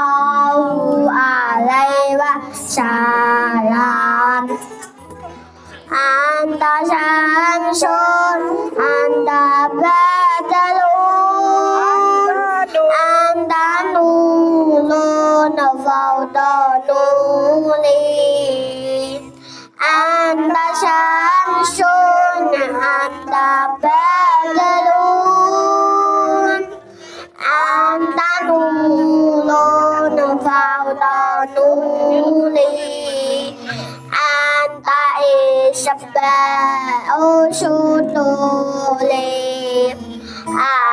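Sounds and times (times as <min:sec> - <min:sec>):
boy singing into a microphone: 0:00.0 - 0:40.9.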